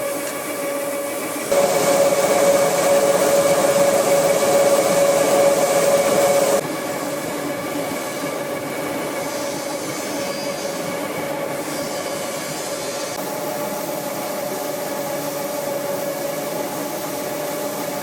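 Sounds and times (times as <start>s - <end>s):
roller mill humming and whining: 0.0s - 18.0s.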